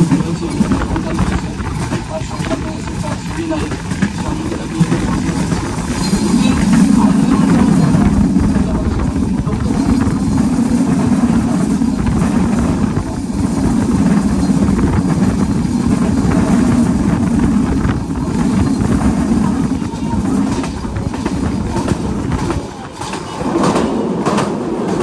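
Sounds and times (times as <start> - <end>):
train wheels rumbling on rail: 0.0 - 25.0
rushing air: 0.6 - 22.8.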